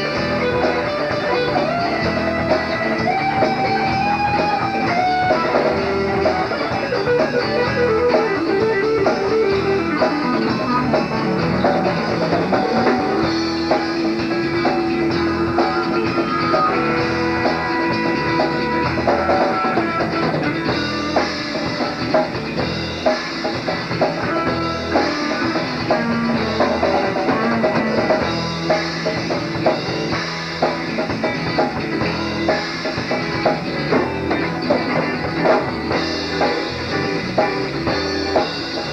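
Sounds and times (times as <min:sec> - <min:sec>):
lead guitar bending notes: 0:00.0 - 0:38.9
rock band playing: 0:00.0 - 0:38.9.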